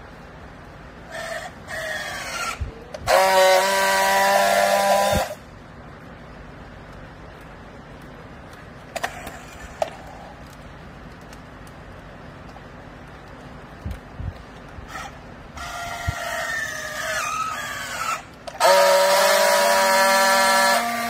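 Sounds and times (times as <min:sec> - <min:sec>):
loud steady welding buzz: 0:00.0 - 0:21.0.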